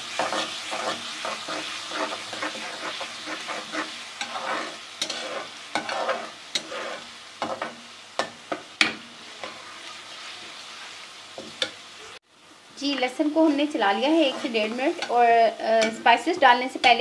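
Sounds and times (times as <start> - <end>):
spoon scraping against pan: 0.0 - 11.8, 13.6 - 17.0
onions sizzling in hot fat: 0.0 - 17.0.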